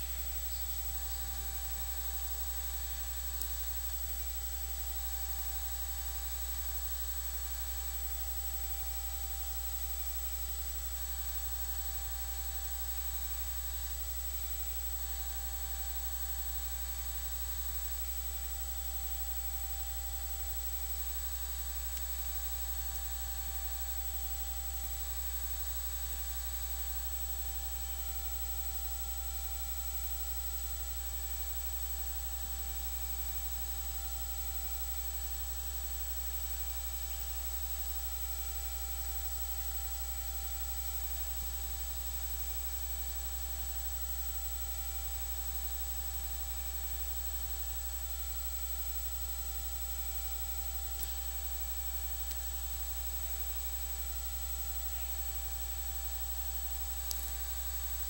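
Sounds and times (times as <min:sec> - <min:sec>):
faint buzz: 0:00.0 - 0:58.0
low electrical hum: 0:00.0 - 0:58.0.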